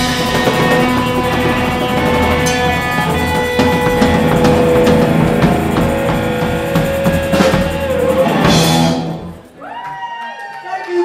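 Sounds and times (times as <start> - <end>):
cymbal crashes: 0.0 - 9.6
rock band playing: 0.0 - 9.6.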